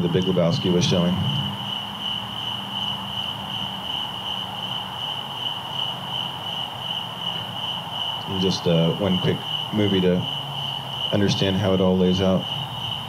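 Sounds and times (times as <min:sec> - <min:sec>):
crickets trilling: 0:00.0 - 0:13.0
faint low hum: 0:00.0 - 0:13.0.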